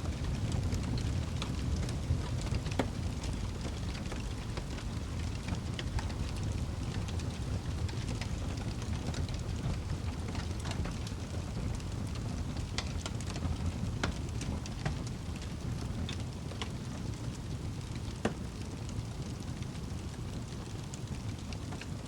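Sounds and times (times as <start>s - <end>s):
fire crackling and popping: 0.0s - 22.0s
wood fire flames rumbling: 0.0s - 22.0s.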